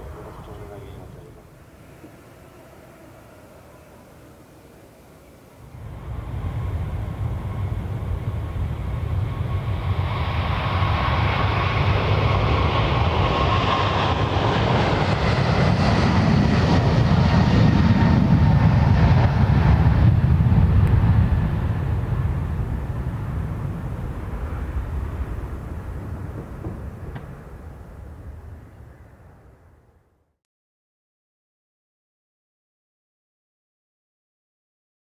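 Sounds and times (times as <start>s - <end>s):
jet airliner passing: 0.0s - 30.1s
faint jet whine: 0.0s - 30.4s.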